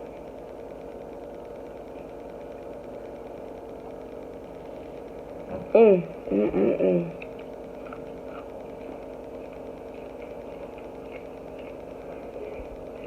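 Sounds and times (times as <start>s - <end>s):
soft clicks of eating: 0.0s - 5.8s, 7.1s - 13.0s
steady electrical hum: 0.0s - 13.0s.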